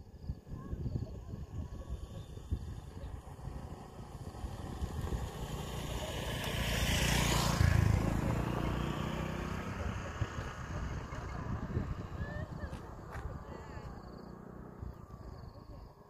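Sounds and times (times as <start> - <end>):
motorcycle engine passing: 1.9 - 16.0.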